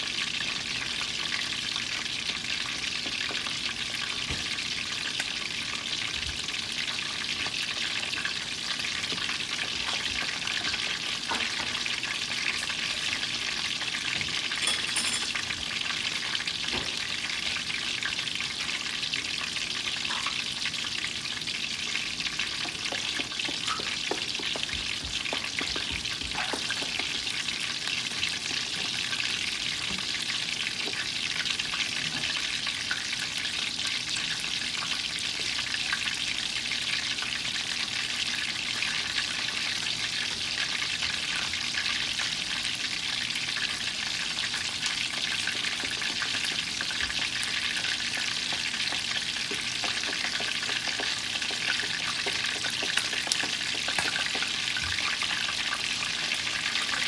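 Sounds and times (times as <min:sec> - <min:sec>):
oil crackling and popping: 0:00.0 - 0:14.6, 0:15.4 - 0:57.0
chicken frying in hot oil: 0:00.0 - 0:57.0.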